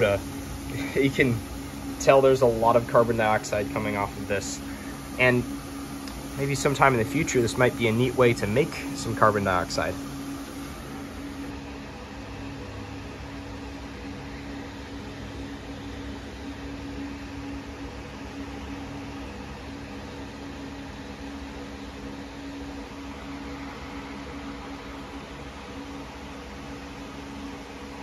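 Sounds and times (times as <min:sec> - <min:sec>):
electric fan humming: 0:00.0 - 0:28.0.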